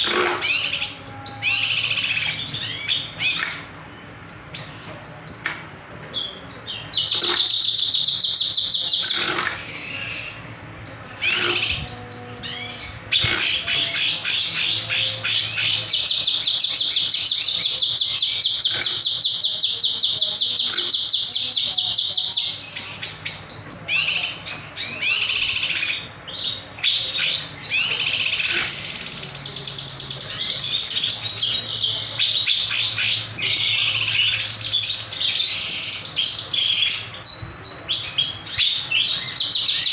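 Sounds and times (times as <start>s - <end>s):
bird singing trilled notes: 0.0s - 39.9s.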